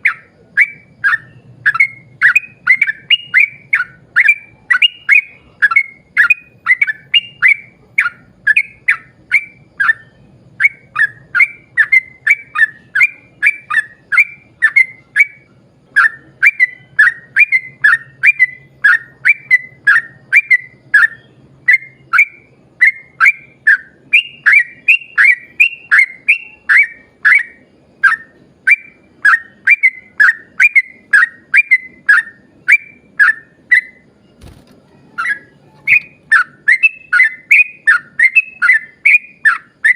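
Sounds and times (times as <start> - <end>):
bird singing bubbly whistled notes: 0.0 - 39.9.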